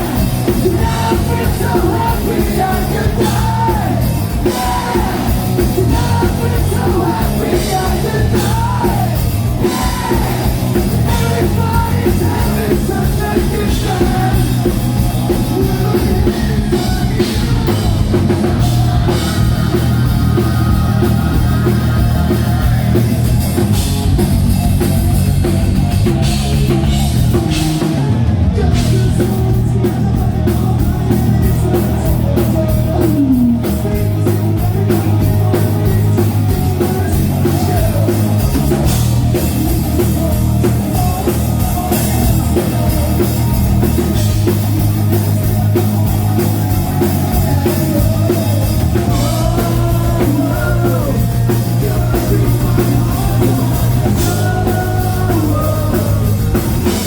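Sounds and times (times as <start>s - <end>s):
person singing: 0.0s - 24.4s, 26.0s - 57.0s
hard rock band playing: 0.0s - 57.0s.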